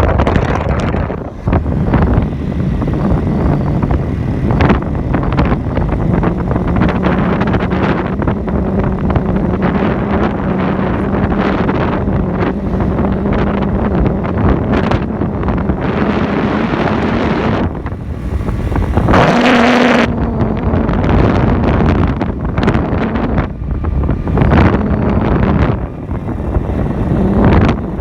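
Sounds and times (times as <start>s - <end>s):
steady low hum: 0.0s - 28.0s
wind buffeting microphone: 0.0s - 28.0s.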